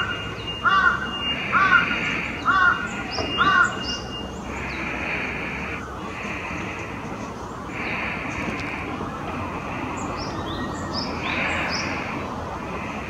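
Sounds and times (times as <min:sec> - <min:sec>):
bird calling: 0:00.0 - 0:13.0
high chirps of small birds: 0:00.0 - 0:13.0.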